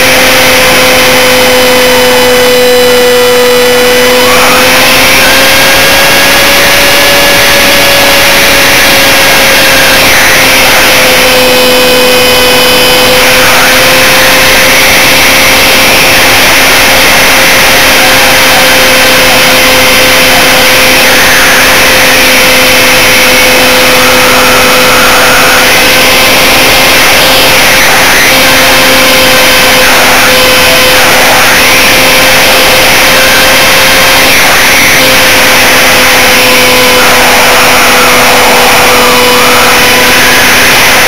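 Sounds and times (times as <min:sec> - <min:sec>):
electric motor and propeller whine: 0:00.0 - 0:41.0.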